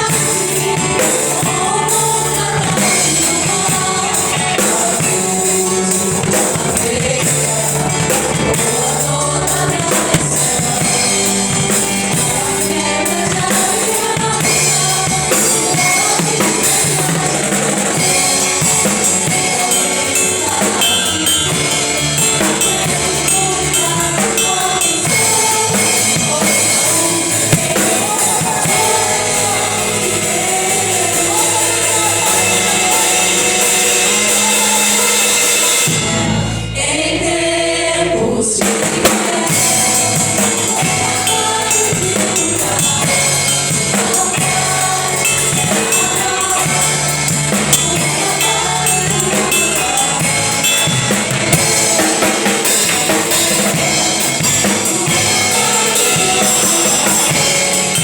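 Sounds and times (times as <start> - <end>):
drum kit beat: 0.0 - 24.8, 25.8 - 31.0, 38.8 - 58.0
live band playing worship music: 0.0 - 58.0.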